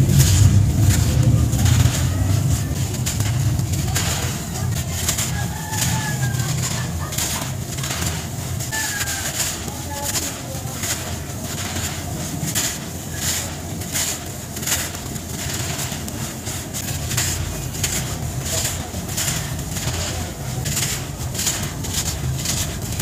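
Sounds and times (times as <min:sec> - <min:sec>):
loose sand trickling: 0:00.0 - 0:23.0
packed sand crunching: 0:00.0 - 0:23.0.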